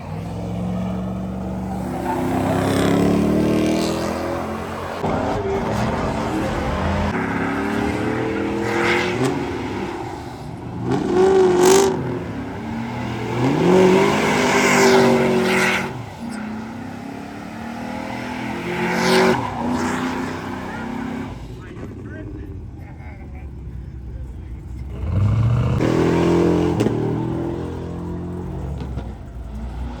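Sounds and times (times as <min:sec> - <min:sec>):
car engine revving hard: 0:00.0 - 0:30.0
other engines running: 0:00.0 - 0:30.0.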